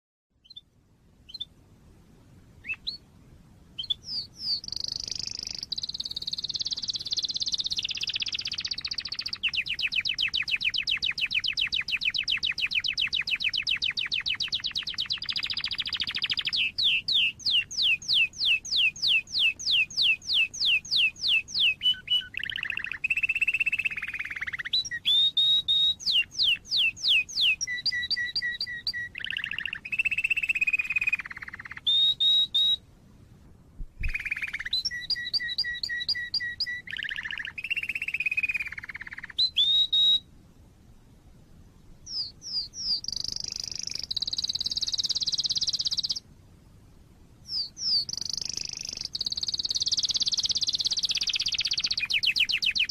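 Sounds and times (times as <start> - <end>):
canary singing: 0.4 - 1.6, 2.6 - 3.0, 3.8 - 32.8, 34.0 - 40.3, 42.0 - 46.2, 47.4 - 52.9.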